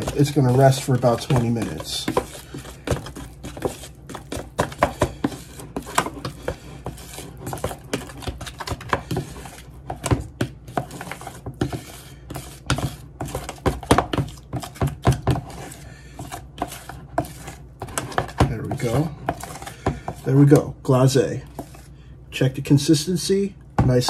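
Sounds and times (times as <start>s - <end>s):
spoon scraping plastic bowl: 0.0s - 22.0s.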